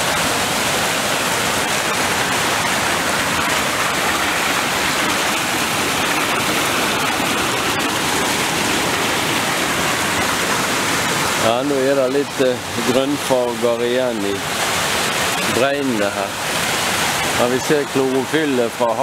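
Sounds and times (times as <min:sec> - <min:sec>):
river rushing over its bed: 0:00.0 - 0:19.0.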